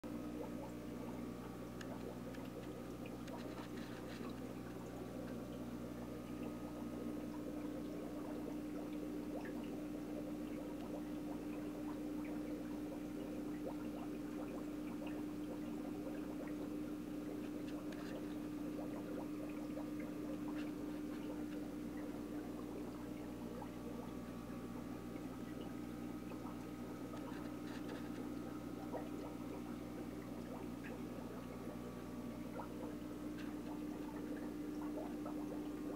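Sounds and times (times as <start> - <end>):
aquarium filter hum: 0.0 - 35.9
water trickling: 0.1 - 35.9.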